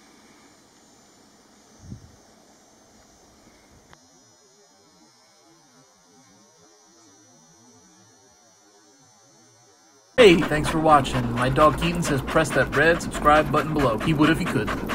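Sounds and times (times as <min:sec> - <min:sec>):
high steady whine: 0:00.0 - 0:14.9.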